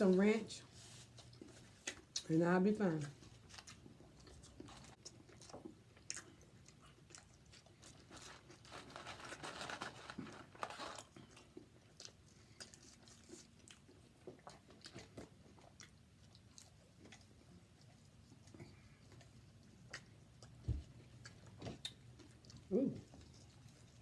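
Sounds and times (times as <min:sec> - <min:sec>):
person chewing and crunching food: 0:00.8 - 0:24.0.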